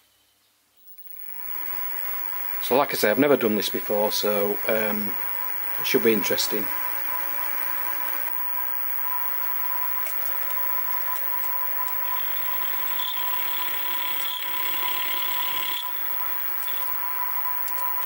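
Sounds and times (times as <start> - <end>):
mill motor whine: 0.9 - 18.0
cutter hissing through metal: 1.0 - 18.0.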